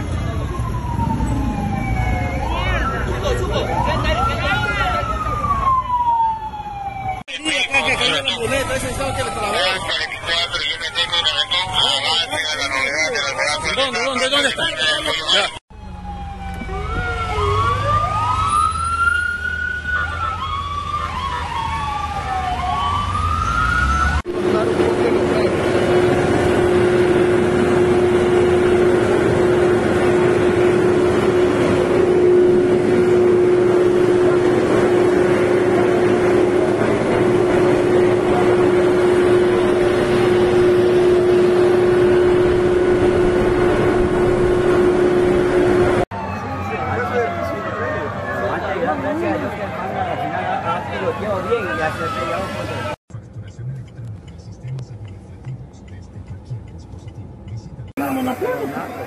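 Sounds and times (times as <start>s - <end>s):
emergency sirens wailing: 0.0s - 53.0s, 58.0s - 59.0s
road traffic rumble: 0.0s - 59.0s.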